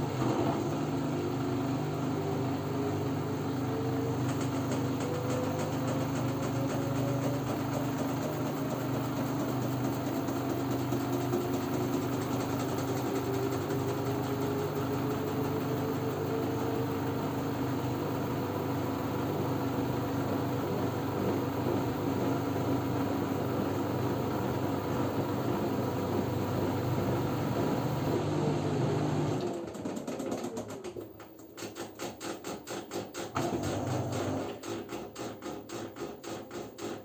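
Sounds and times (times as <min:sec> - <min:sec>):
washing machine spinning: 0:00.0 - 0:37.0.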